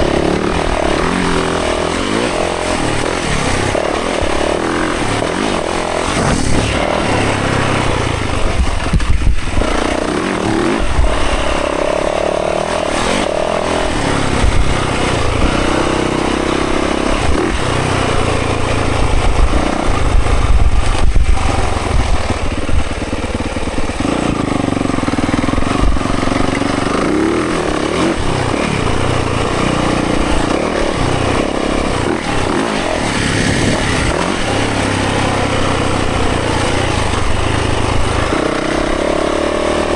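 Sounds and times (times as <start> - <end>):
sharp thumps: 0.0 - 39.6
dirt bike engine revving: 0.0 - 39.9.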